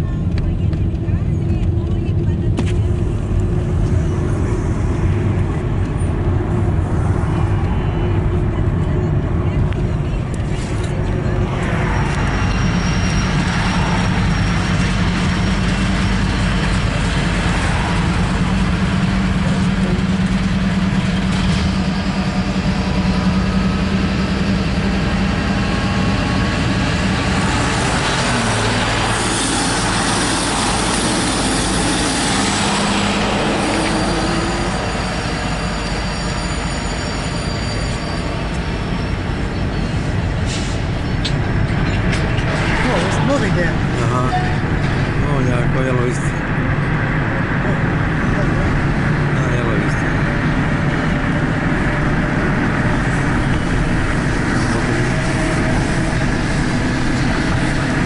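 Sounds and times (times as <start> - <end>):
diesel locomotives passing: 0.0 - 58.0
freight cars rolling on rails: 0.0 - 58.0.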